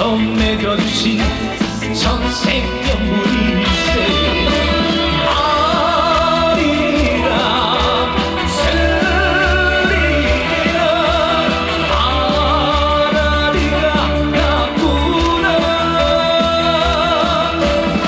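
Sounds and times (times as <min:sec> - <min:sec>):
song through a pa: 0:00.0 - 0:18.0.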